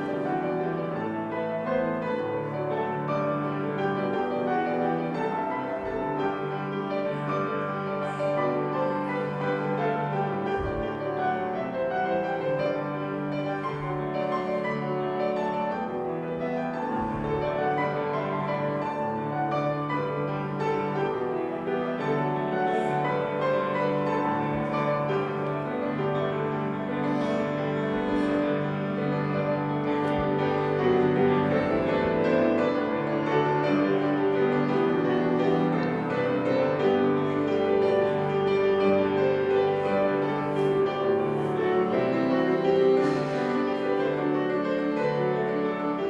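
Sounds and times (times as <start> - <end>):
piano-like keyboard music: 0.0 - 46.0.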